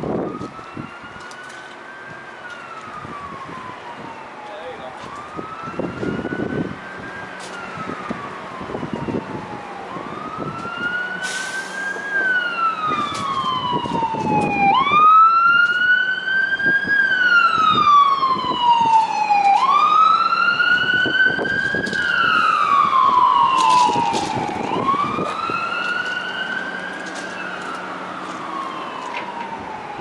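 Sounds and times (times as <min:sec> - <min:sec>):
emergency siren wailing: 0:00.0 - 0:30.0.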